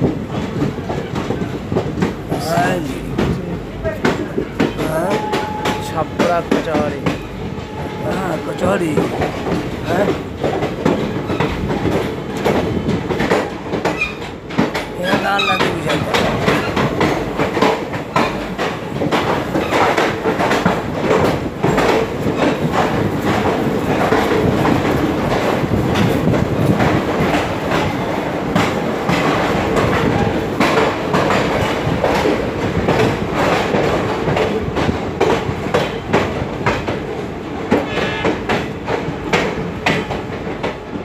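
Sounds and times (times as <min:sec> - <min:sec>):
train wheels clattering on rails: 0:00.0 - 0:41.0.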